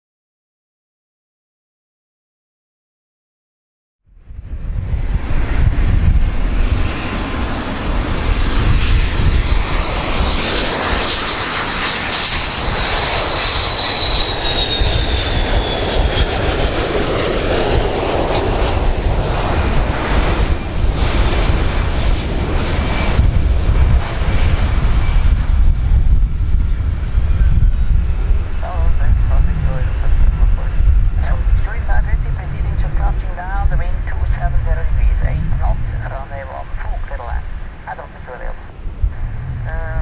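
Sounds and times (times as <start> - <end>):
jet engine rumble with high whine: 4.1 - 40.0.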